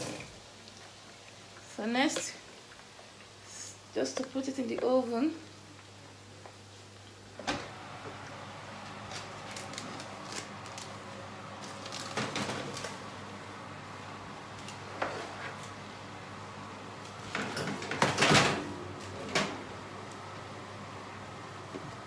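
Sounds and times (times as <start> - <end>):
oven humming: 3.9 - 22.0.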